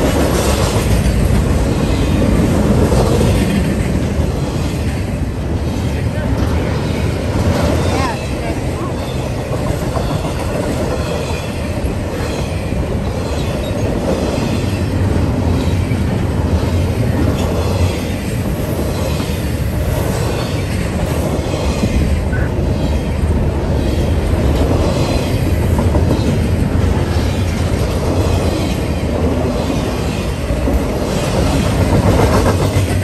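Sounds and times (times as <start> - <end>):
steel wheels on rails: 0.0 - 33.0.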